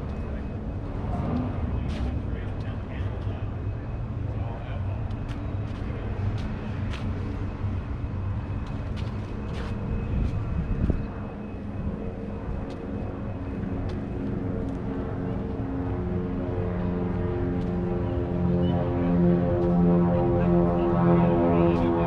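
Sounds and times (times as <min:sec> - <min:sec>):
outdoor background rumble: 0:00.0 - 0:22.0.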